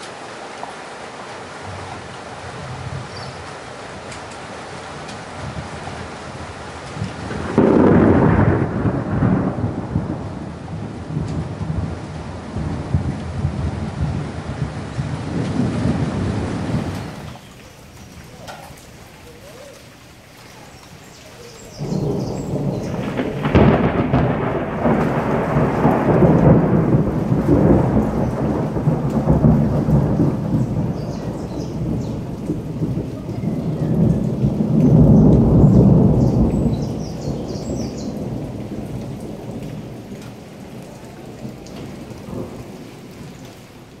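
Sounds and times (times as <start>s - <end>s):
steady rain: 0.0s - 44.0s
thunder rumble and crack: 4.9s - 19.7s, 20.8s - 44.0s.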